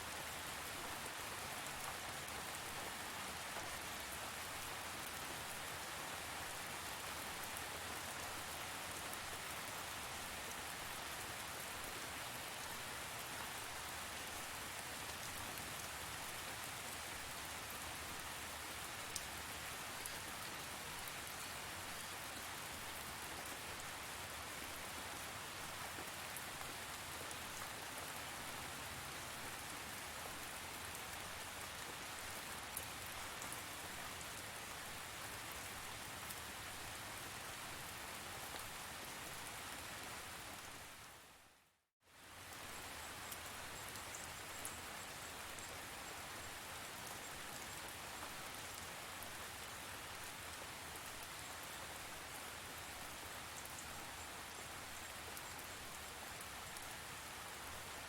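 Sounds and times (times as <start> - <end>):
rain pattering: 0.1 - 41.1, 42.2 - 58.0.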